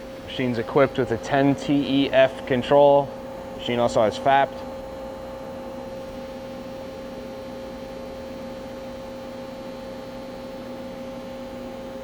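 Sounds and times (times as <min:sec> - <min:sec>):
machine electrical hum: 0:00.0 - 0:12.0.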